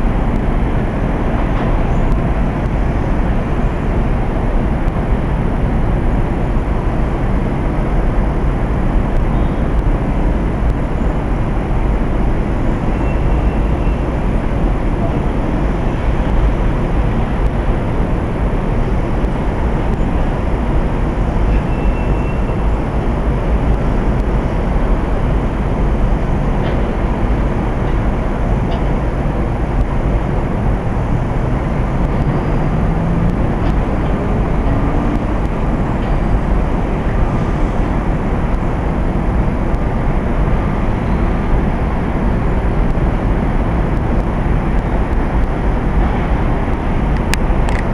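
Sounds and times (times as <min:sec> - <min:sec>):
loud rushing noise: 0:00.0 - 0:47.9.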